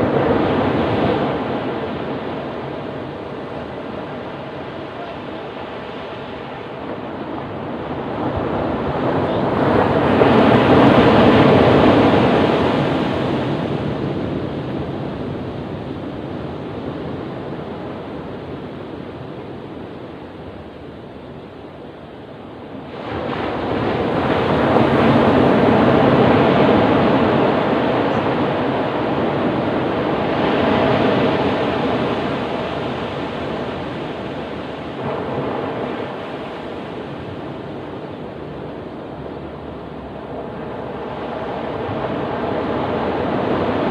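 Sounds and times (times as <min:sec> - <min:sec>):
waves breaking and washing: 0:00.0 - 0:43.9.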